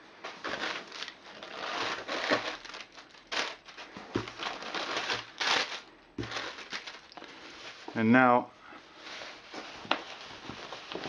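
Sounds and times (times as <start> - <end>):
bubble wrap crinkling: 0.0 - 8.0, 8.9 - 11.0.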